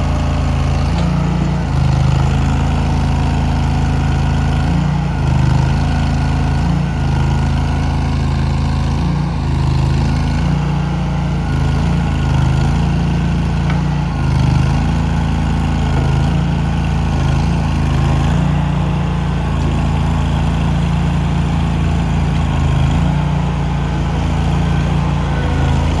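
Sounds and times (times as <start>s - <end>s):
backhoe loader engine running: 0.0s - 26.0s.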